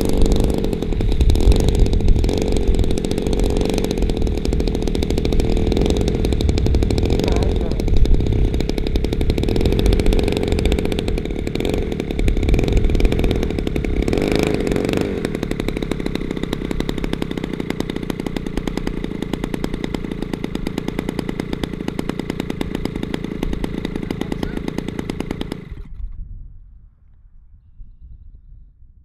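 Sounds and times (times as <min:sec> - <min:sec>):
two-stroke model engine running: 0:00.0 - 0:26.0.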